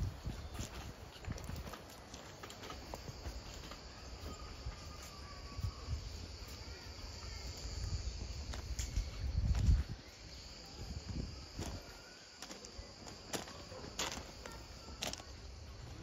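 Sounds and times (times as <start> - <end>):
high-pitched insect drone: 2.8 - 16.0.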